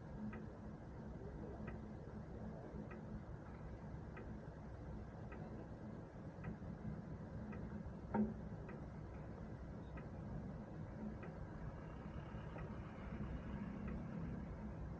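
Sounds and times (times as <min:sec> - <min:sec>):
faint regular ticking: 0:00.0 - 0:14.9
low steady rumble: 0:00.0 - 0:14.9.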